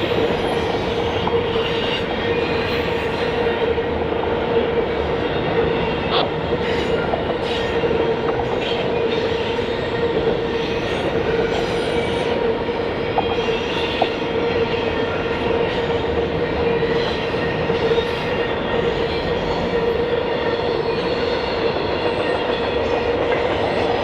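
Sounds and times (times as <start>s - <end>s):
railroad cars rumbling: 0.0s - 24.0s.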